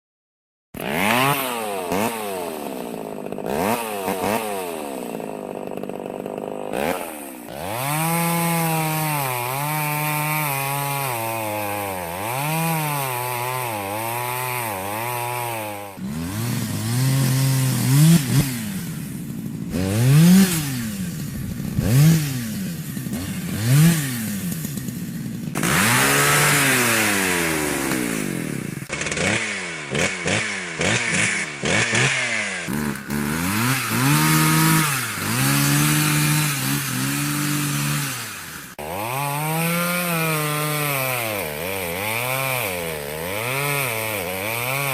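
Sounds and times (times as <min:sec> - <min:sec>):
chainsaw engine revving: 0:00.8 - 0:44.9.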